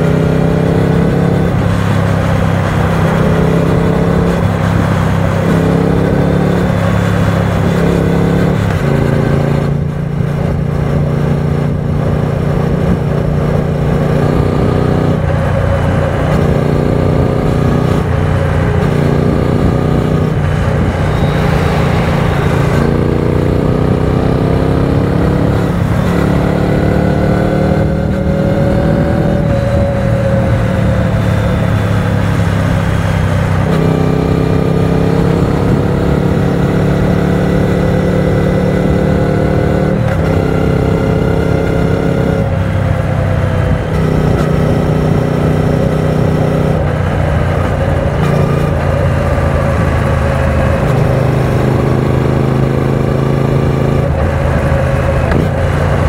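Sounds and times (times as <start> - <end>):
motorcycle engine revving: 0.0 - 56.0
wind rush: 1.0 - 39.1, 41.7 - 56.0.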